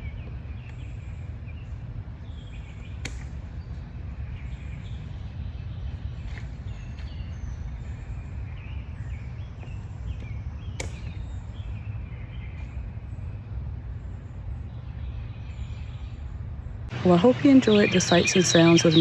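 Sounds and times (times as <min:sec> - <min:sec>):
breeze rumble: 0:00.0 - 0:19.0.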